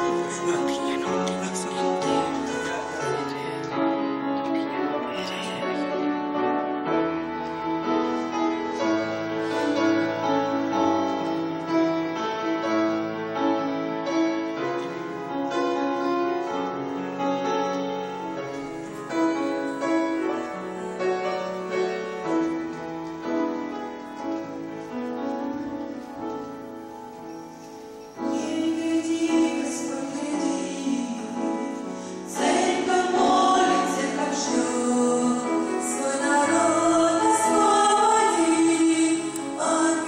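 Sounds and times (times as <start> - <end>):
grand piano playing: 0.0 - 40.0.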